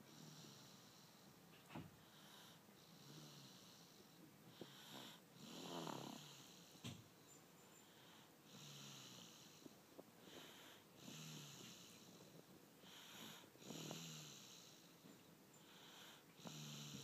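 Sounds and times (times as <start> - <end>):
child snoring softly: 0.0 - 7.1, 7.8 - 17.0.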